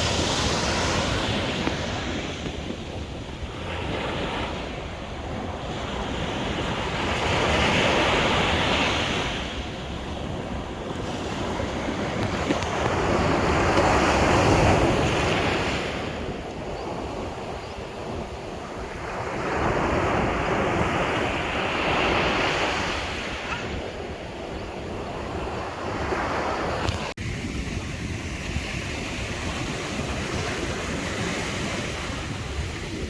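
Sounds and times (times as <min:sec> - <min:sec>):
sea waves washing: 0:00.0 - 0:33.0
wind buffeting microphone: 0:00.0 - 0:33.0.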